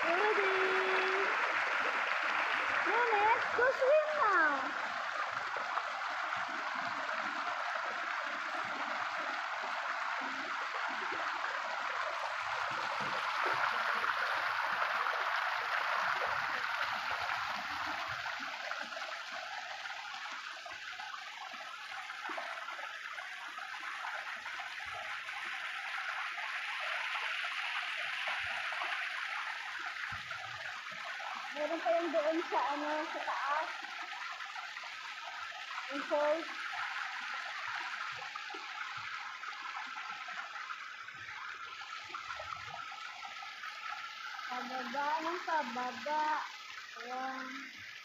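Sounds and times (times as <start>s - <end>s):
stream water rushing over rocks: 0.0s - 48.0s.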